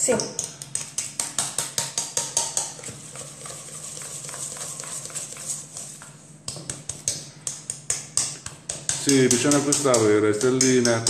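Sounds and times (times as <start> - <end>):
hand whisk beating in a bowl: 0.0 - 11.0.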